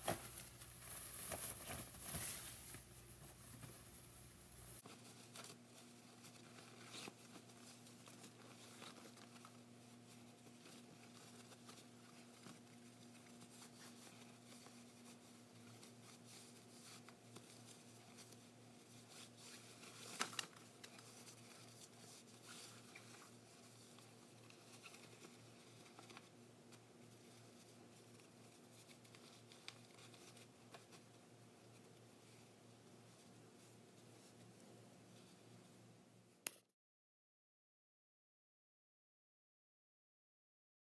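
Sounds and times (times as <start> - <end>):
cloth rustling: 0.0 - 35.7
faint electrical hum: 0.0 - 36.7.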